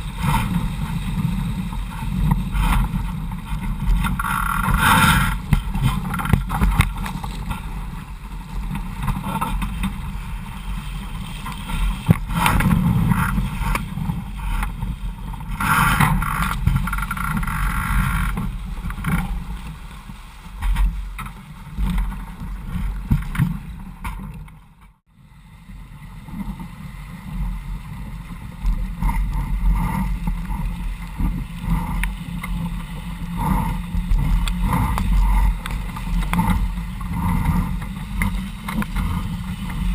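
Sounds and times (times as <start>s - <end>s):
water rushing along a hull: 0.0s - 39.9s.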